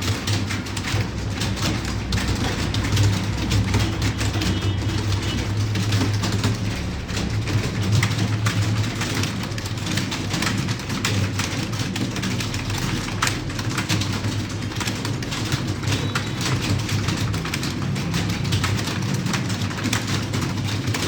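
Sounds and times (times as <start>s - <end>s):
keyboard typing clatter: 0.0s - 21.0s.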